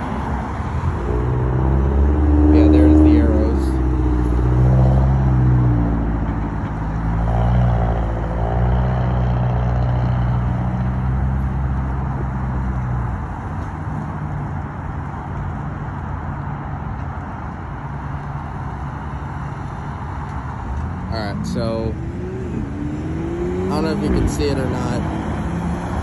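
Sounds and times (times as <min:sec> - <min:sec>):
car engines passing: 0:00.0 - 0:26.0
traffic rumble: 0:00.0 - 0:26.0.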